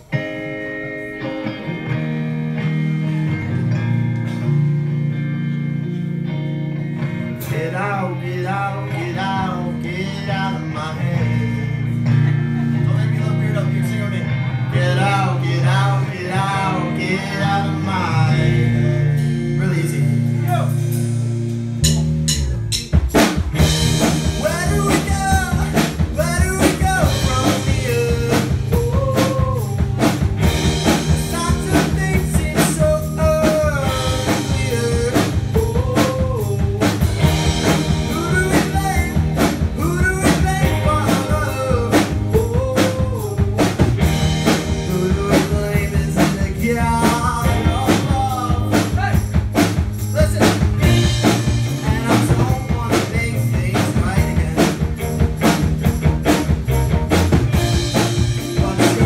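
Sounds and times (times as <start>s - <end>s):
rock band playing live: 0.0s - 59.0s
person singing: 7.4s - 13.6s, 14.2s - 21.0s, 23.8s - 49.4s, 50.0s - 59.0s.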